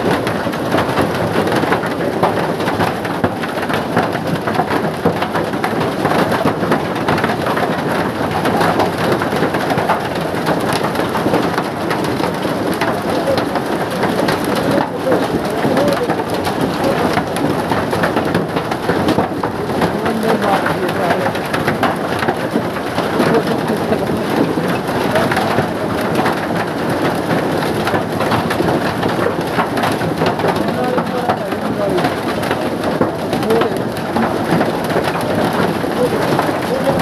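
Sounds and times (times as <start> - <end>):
heavy rain pattering: 0.0 - 37.0.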